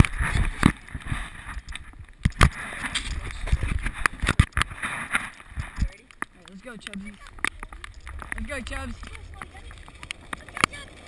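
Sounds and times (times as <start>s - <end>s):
scooter wheels rumbling on asphalt: 0.0s - 11.0s.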